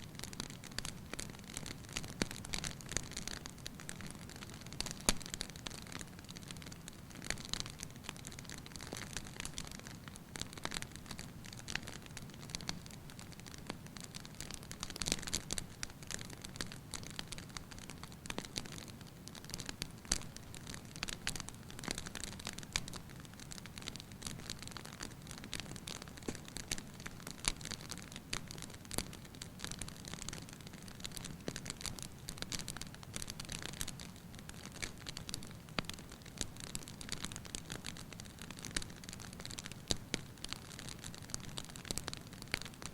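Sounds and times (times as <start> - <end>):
wood fire crackling: 0.1 - 42.9.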